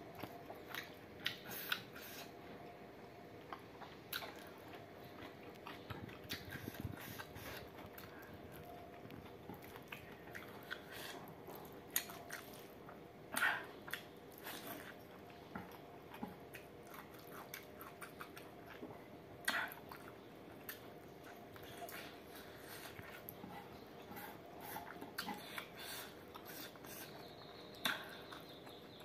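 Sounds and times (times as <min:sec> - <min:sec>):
person chewing food: 0:00.0 - 0:02.7, 0:03.4 - 0:29.0.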